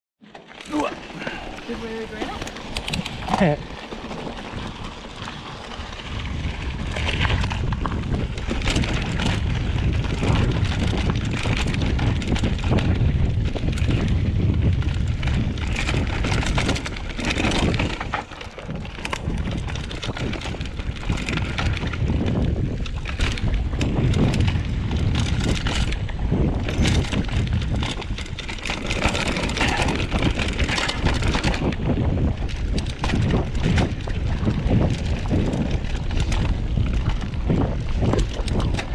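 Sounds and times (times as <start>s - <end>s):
bike rattling and knocking: 0.2s - 38.9s
bike tyre noise: 0.2s - 38.9s
wind on microphone: 0.7s - 38.9s.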